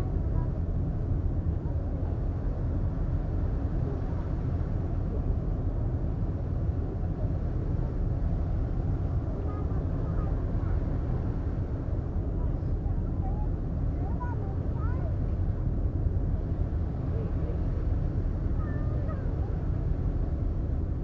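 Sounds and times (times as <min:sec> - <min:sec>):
ferry engine rumble: 0:00.0 - 0:21.0.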